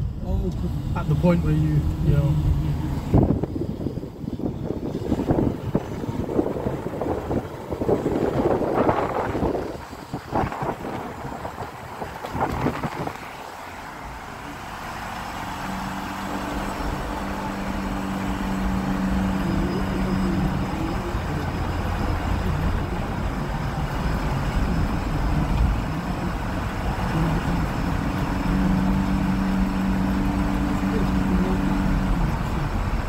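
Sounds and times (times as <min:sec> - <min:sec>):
car engine and tyre rumble: 0:00.0 - 0:33.0
low humming drone: 0:00.0 - 0:33.0.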